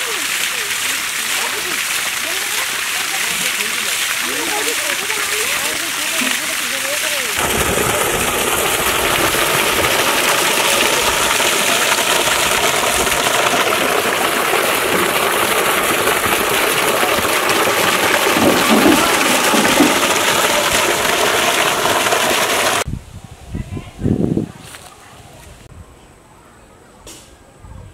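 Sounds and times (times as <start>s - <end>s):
water jet gushing and splashing: 0.0s - 22.9s.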